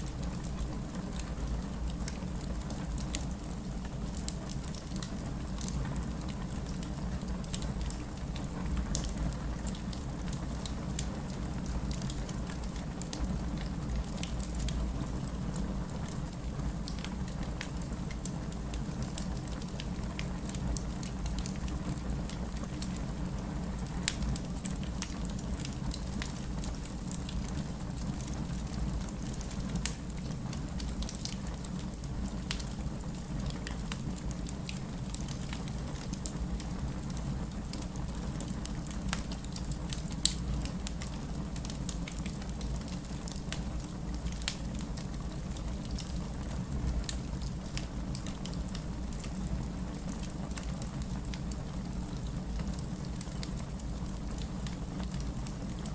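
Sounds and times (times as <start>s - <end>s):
low rumble of flames: 0.0s - 55.9s
wood fire crackling: 0.0s - 55.9s.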